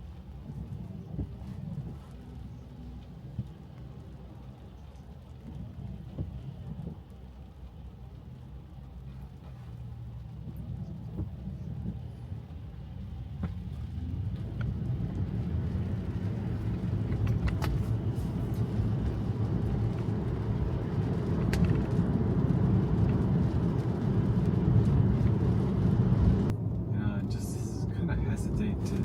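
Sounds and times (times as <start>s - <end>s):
road and tyre noise in car: 0.0s - 29.0s.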